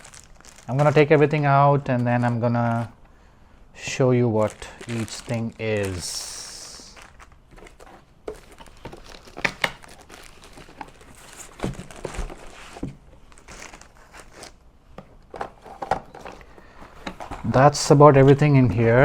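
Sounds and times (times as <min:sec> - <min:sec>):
plastic packaging crinkling: 0:00.0 - 0:03.0, 0:03.8 - 0:19.0.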